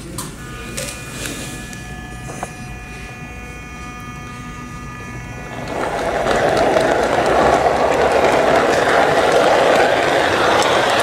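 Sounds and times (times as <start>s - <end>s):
model train mechanical whine: 0.1s - 11.0s.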